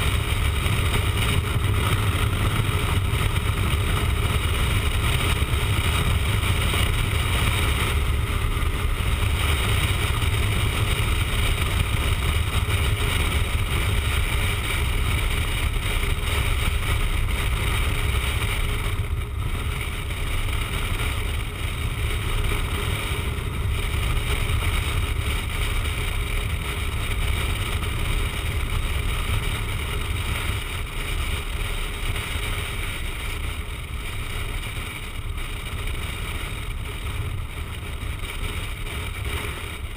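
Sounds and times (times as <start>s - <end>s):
motorcycle and road rumble: 0.0s - 39.9s
wind rushing over microphone: 0.0s - 39.9s.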